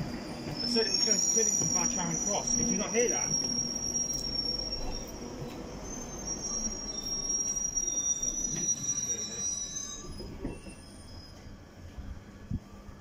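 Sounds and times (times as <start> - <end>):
train wheel squeal: 0.0 - 12.1
train rumble: 0.0 - 13.0.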